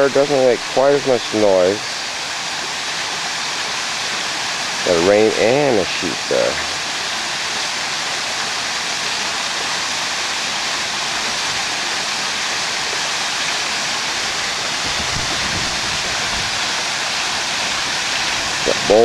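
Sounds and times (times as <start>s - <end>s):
waterfall splashing into pool: 0.0s - 19.0s.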